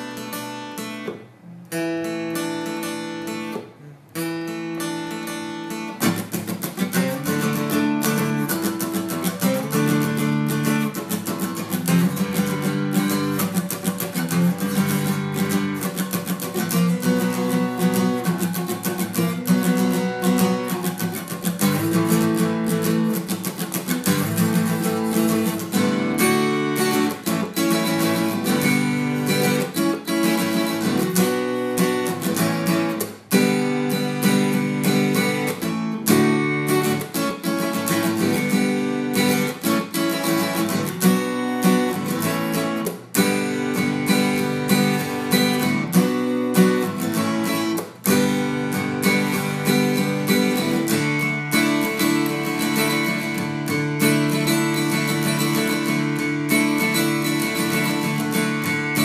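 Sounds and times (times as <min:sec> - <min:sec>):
strummed and picked guitar: 0:00.0 - 0:59.0.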